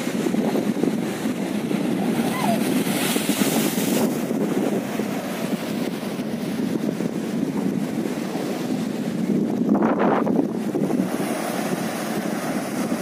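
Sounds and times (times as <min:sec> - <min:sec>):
sea surf breaking against seawall: 0:00.0 - 0:13.0
wind buffeting microphone: 0:00.0 - 0:13.0.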